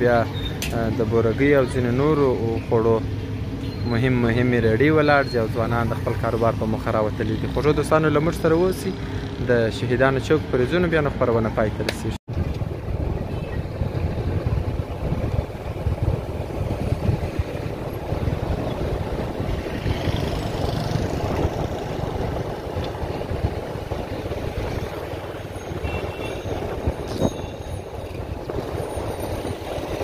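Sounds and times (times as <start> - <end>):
car engines: 0.0 - 30.0
motorcycle engines: 0.0 - 30.0
wind and road noise: 0.0 - 30.0.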